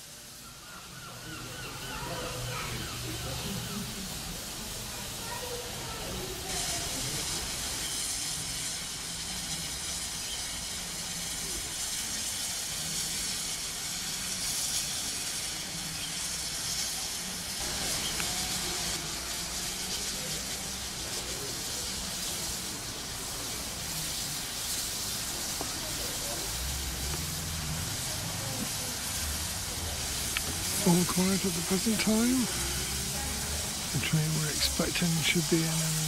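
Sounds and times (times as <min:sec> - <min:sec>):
steam hissing from locomotive: 0:00.0 - 0:36.0.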